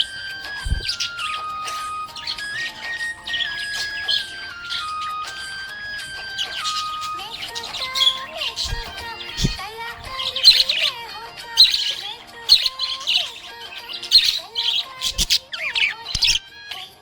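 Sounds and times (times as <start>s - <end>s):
budgerigar chirping: 0.0s - 16.5s
background music: 0.0s - 17.0s.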